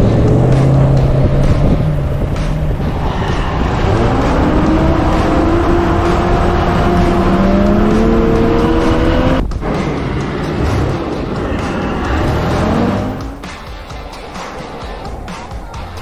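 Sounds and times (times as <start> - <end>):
off-road vehicle engine accelerating: 0.0 - 16.0
rough low rumble: 0.0 - 16.0.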